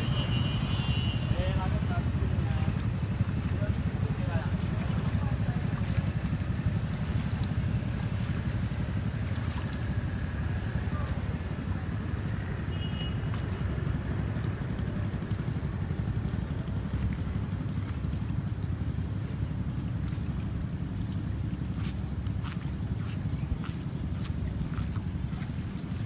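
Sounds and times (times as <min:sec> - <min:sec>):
low street rumble: 0:00.0 - 0:26.0.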